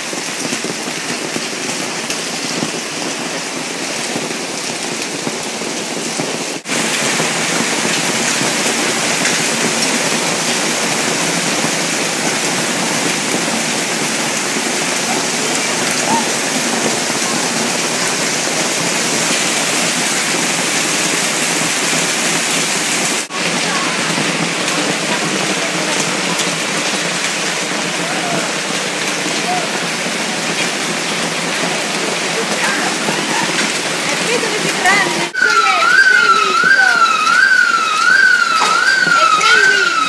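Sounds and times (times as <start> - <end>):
rain and hail on hard surfaces: 0.0 - 40.0.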